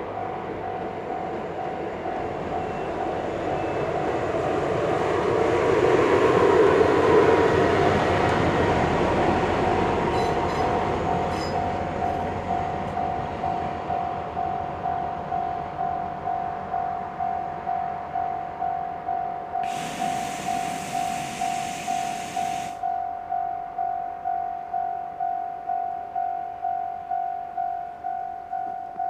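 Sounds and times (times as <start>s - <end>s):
crossing warning bell ringing: 0.0s - 5.1s, 9.0s - 29.0s
train rumbling past: 0.0s - 23.9s.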